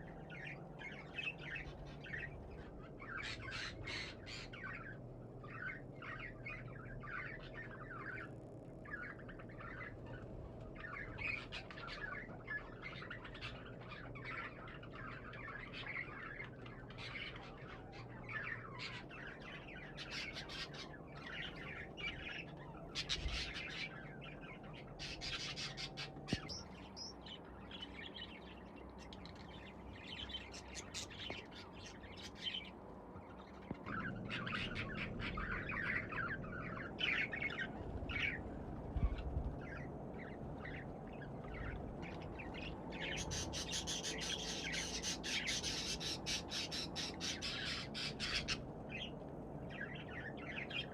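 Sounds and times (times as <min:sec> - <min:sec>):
budgerigars chirping and chattering: 0:00.0 - 0:50.9.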